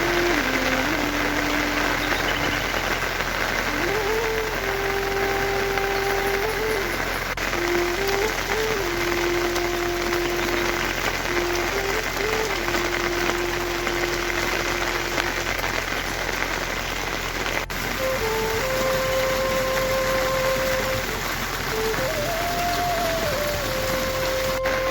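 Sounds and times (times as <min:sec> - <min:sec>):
heavy rain falling: 0:00.0 - 0:24.9
slow melody of held notes: 0:00.0 - 0:24.9.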